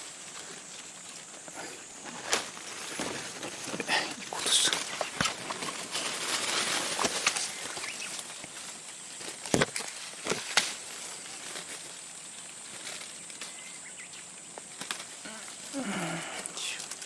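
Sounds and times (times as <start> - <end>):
leaves and twigs rustling: 0.0 - 17.0.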